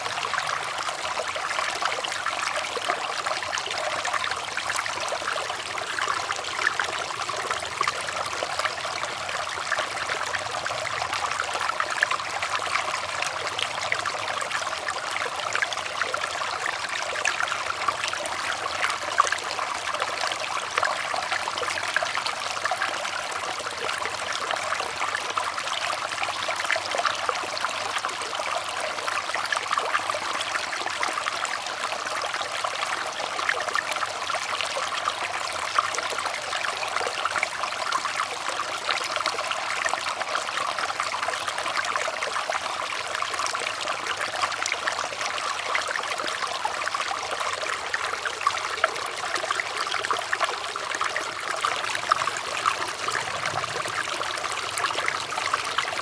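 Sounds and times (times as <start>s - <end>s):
stream water babbling over stones: 0.0s - 56.0s.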